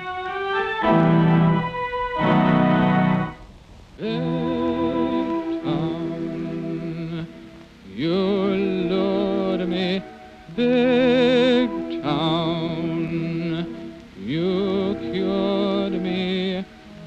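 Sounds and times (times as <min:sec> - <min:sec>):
slow sentimental organ music: 0:00.0 - 0:17.0.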